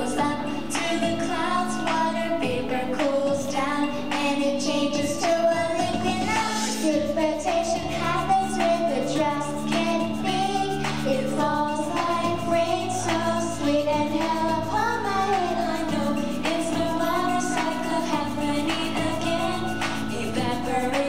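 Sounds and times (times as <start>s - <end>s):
children singing: 0.0s - 21.0s.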